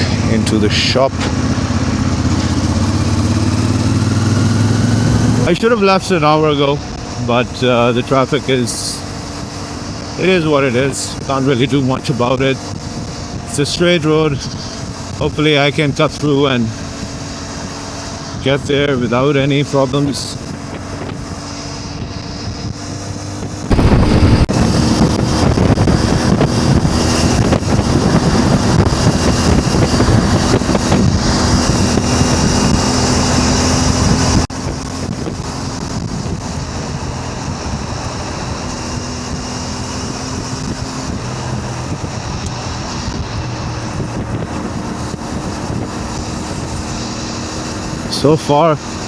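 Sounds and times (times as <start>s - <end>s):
motorcycle engine cruising: 0.0s - 49.0s
wind rushing over microphone: 0.0s - 49.0s.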